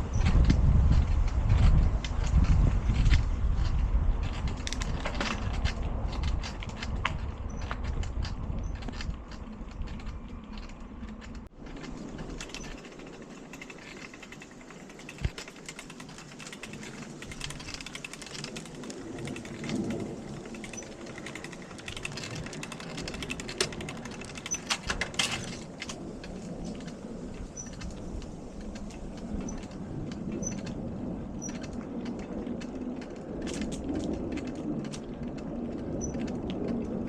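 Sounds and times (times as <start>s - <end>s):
bicycle rumble: 0.0s - 37.0s
bike clatter: 0.0s - 37.0s
bike clicks and rattles: 0.0s - 37.0s.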